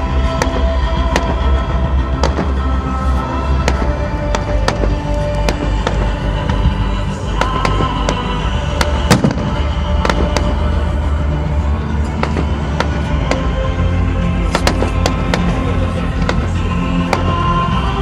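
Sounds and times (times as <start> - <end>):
loud music: 0.0 - 18.0
fireworks bangs and crackles: 0.3 - 11.2, 12.0 - 13.8, 14.4 - 17.7.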